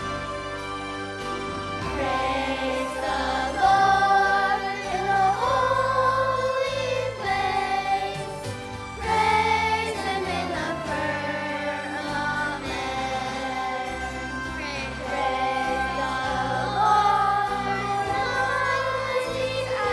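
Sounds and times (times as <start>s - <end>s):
choir singing: 0.0s - 19.9s
instrumental accompaniment: 0.0s - 19.9s
steady bass line: 0.0s - 19.9s.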